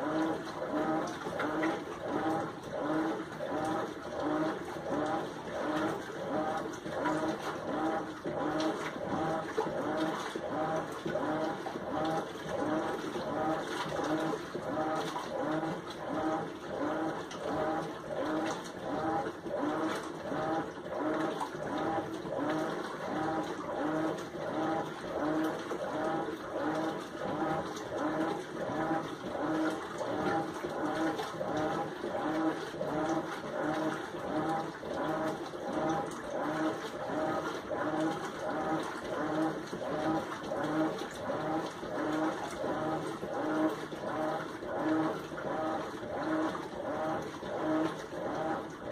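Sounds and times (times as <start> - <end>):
washing machine agitating hum: 0.0 - 48.9
water swishing: 0.0 - 48.9.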